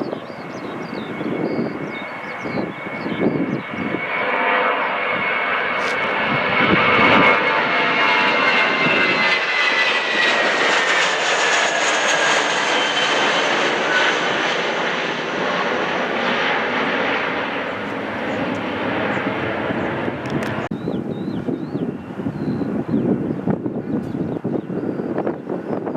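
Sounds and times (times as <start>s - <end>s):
outdoor noise: 0.0s - 25.5s
jet airliner engines passing: 0.0s - 25.9s.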